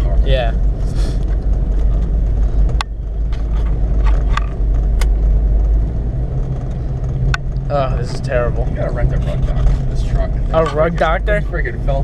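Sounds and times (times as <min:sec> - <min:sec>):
truck rumbling on snowy road: 0:00.0 - 0:12.0.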